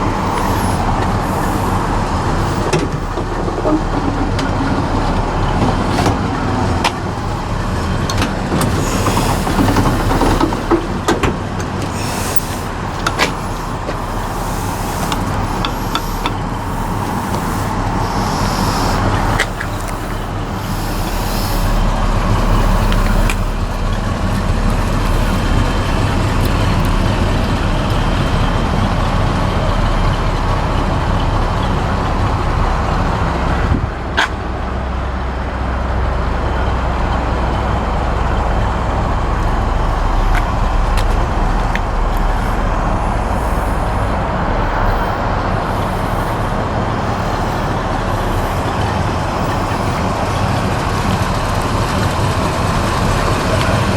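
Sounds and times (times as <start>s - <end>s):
engine rumble: 0.0s - 53.9s
road noise: 0.0s - 53.9s.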